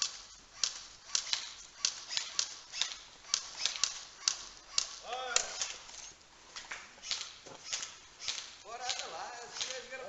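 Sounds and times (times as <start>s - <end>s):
airsoft guns firing: 0.0s - 5.9s, 7.0s - 10.0s.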